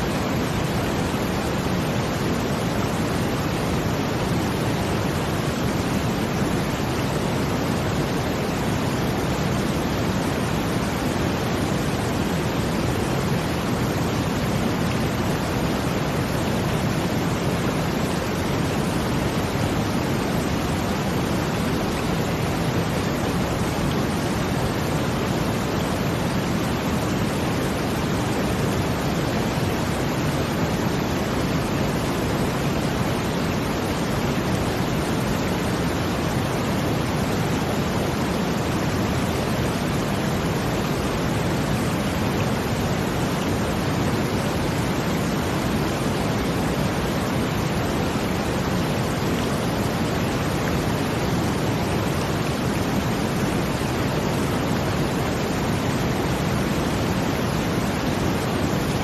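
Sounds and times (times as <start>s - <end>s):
brown noise: 0.0s - 59.0s
rushing water: 0.0s - 59.0s.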